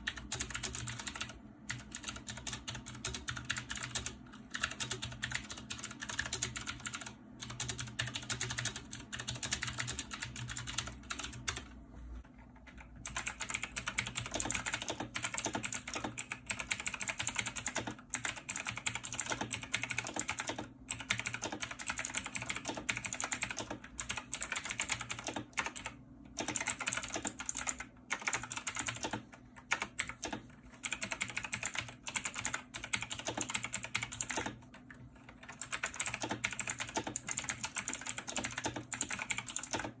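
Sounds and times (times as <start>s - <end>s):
mechanical keyboard typing: 0.0s - 11.7s, 12.4s - 40.0s.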